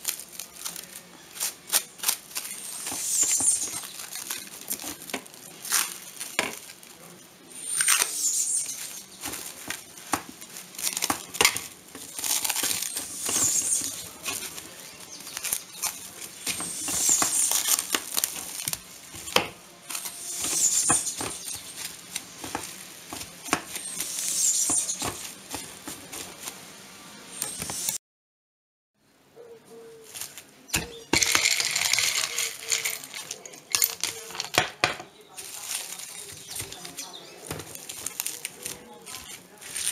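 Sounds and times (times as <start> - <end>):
plastic film crackling: 0.0 - 26.8, 30.0 - 39.9.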